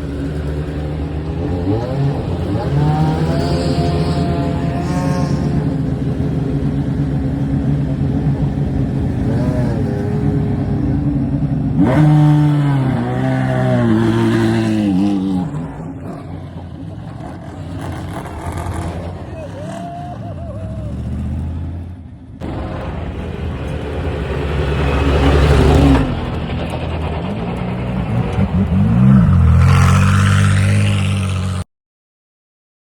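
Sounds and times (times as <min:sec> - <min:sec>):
race car engine revving: 0:00.0 - 0:31.6.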